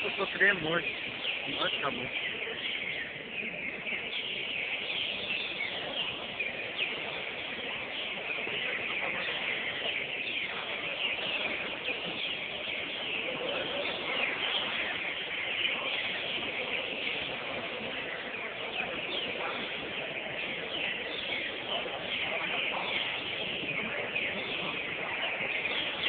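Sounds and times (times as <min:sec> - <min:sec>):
songbirds chorus: 0:00.0 - 0:26.0.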